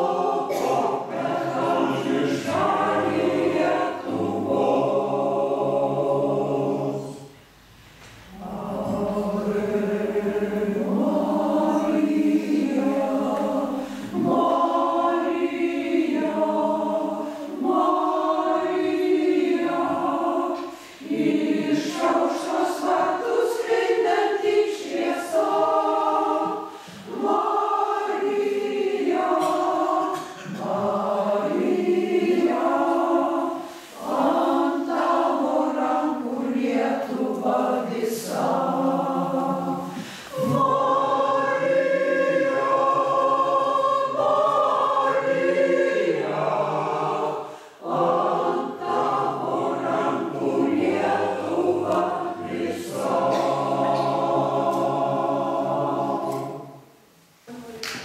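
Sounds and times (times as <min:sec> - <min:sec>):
choir singing a hymn: 0:00.0 - 0:57.2.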